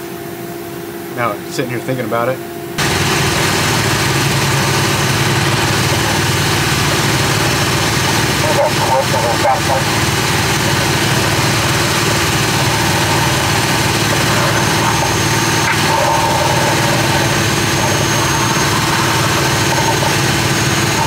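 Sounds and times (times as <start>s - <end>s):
air compressor engine droning: 0.0s - 21.0s.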